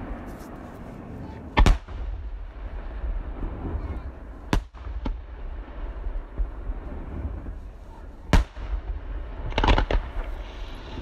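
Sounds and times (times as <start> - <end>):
fireworks bangs: 0.0 - 11.0
steady low rumble: 0.0 - 11.0.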